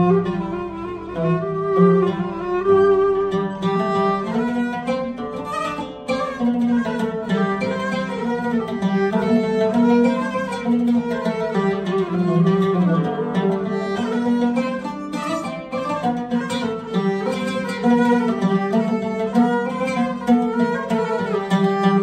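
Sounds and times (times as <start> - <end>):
bowed violin melody: 0.0 - 22.0
oud plucked notes: 0.0 - 22.0.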